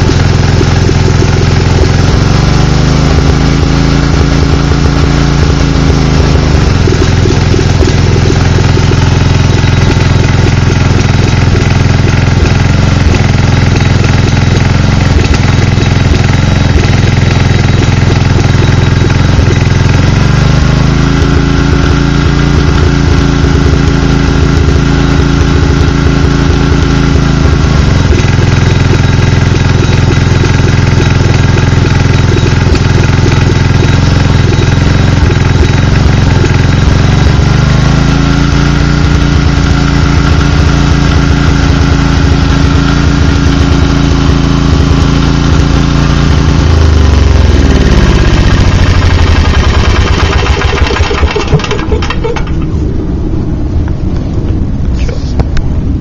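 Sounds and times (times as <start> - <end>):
generator engine running unevenly: 0.0 - 56.0.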